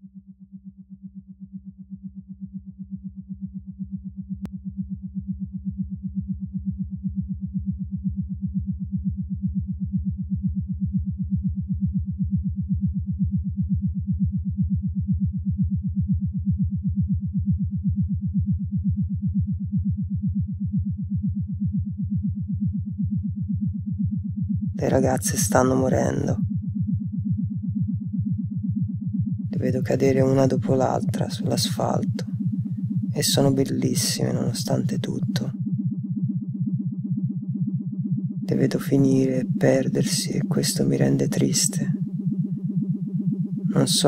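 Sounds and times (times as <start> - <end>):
pulsing synthesizer drone: 0.0 - 44.0.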